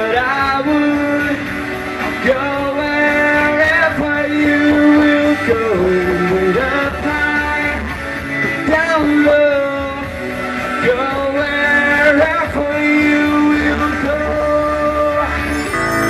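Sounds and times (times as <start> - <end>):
man singing into a microphone: 0.0 - 15.6
backing music: 0.0 - 16.0.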